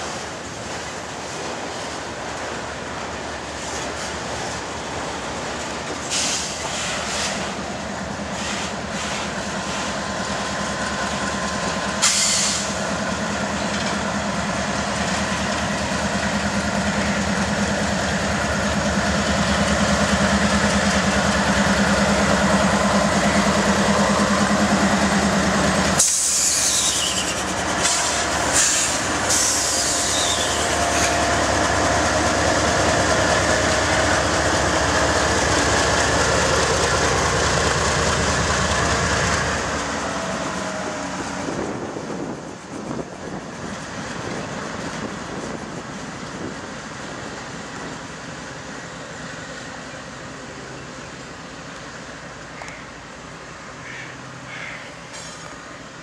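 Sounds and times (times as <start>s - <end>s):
diesel locomotives rolling past: 0.0s - 56.0s.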